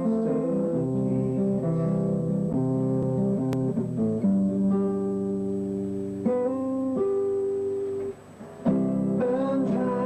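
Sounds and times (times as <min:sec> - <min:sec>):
guitar-led band music: 0:00.0 - 0:10.0.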